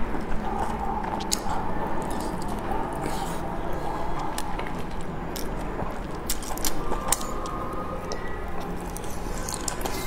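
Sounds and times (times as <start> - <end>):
steady low hum: 0.0 - 10.0
wet chewing and smacking: 0.1 - 10.0.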